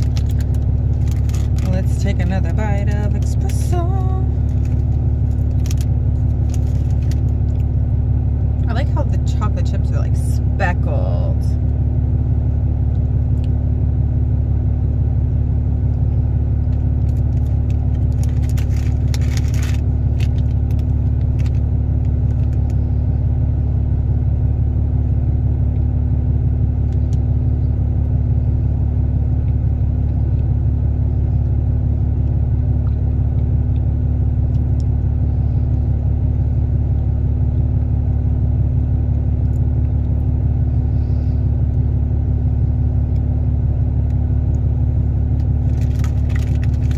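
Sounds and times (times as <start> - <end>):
loud low hum: 0.0 - 46.9.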